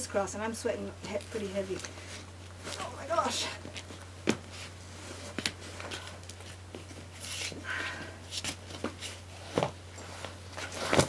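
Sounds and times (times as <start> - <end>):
bags and clothing rustling: 1.0 - 11.0.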